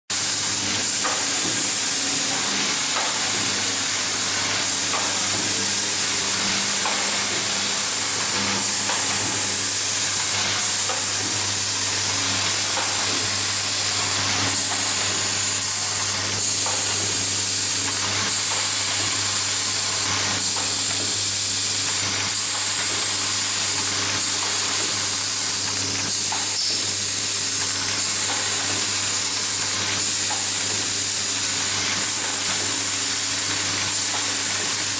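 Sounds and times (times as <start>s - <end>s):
machine humming and hissing: 0.1s - 34.9s.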